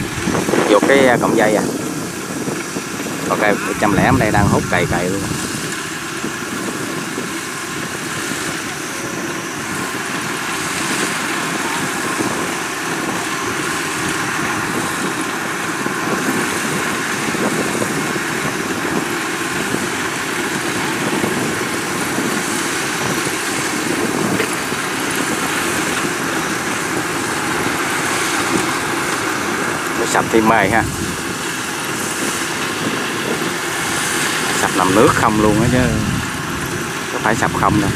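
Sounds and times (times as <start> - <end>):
combine harvester running: 0.0 - 37.9.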